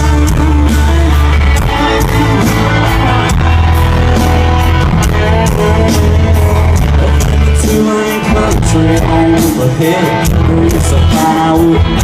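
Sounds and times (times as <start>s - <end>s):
country-rock band playing: 0.0s - 12.0s.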